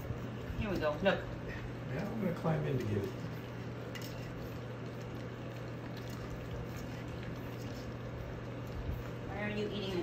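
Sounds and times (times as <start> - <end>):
puppies lapping wet food: 0.0 - 10.0
steady low hum: 0.0 - 10.0.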